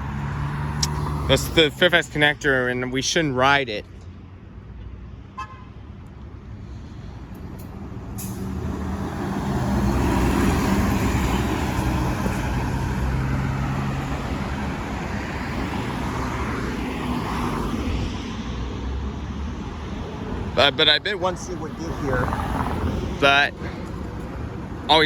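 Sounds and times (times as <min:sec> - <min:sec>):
bus diesel engine: 0:00.0 - 0:04.6, 0:06.3 - 0:25.0.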